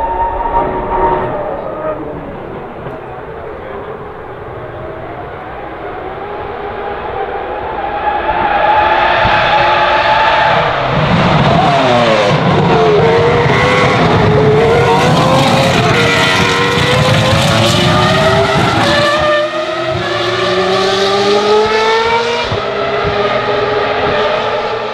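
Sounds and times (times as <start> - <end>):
racing car engine accelerating: 0.0 - 24.9.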